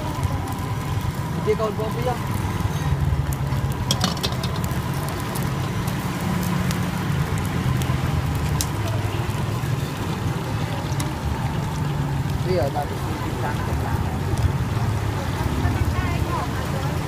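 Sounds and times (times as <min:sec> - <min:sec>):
charcoal grill crackling: 0:00.0 - 0:17.0.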